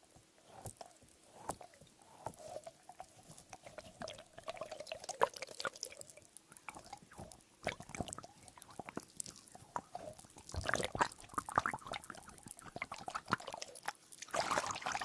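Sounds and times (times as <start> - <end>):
squeeze toy squelching: 0.4 - 15.0.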